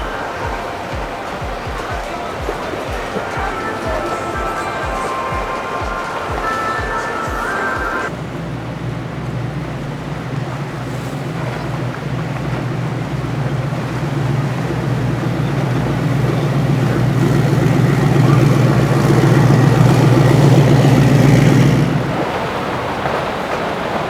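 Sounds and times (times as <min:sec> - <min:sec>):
boat engines droning: 0:00.0 - 0:24.0.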